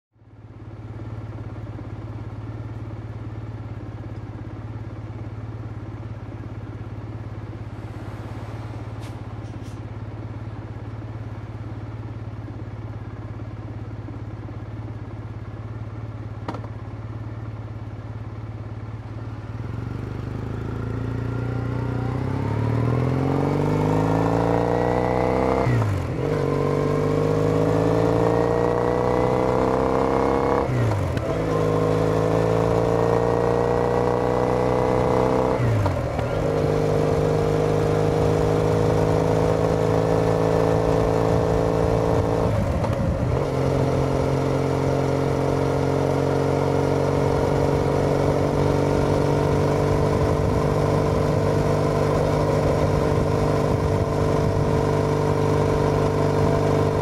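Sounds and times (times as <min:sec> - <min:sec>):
motorcycle engine idling and revving: 0:00.1 - 0:57.0.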